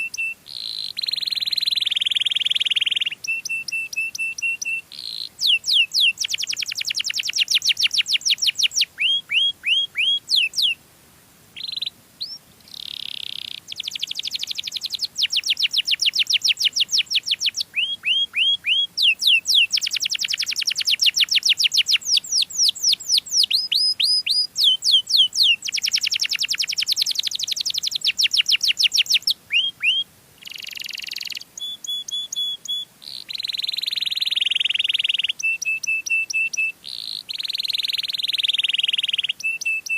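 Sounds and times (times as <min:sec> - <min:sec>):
canary singing trills: 0:00.0 - 0:10.8, 0:11.6 - 0:39.9.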